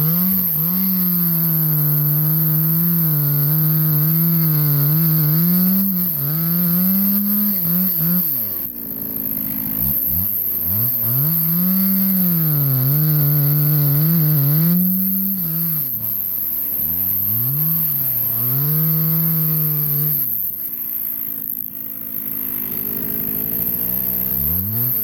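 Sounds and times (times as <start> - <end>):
chainsaw cutting a log: 0.0 - 25.0.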